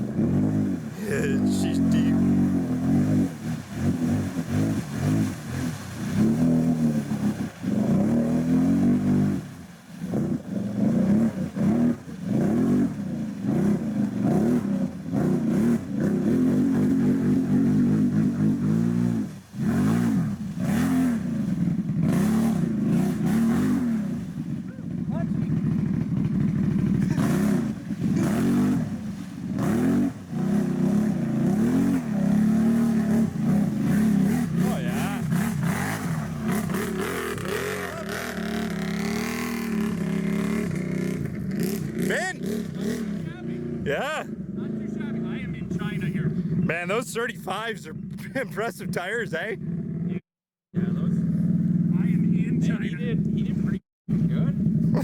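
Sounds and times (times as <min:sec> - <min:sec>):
atv engine revving in mud: 0:00.0 - 0:50.2, 0:50.8 - 0:55.0.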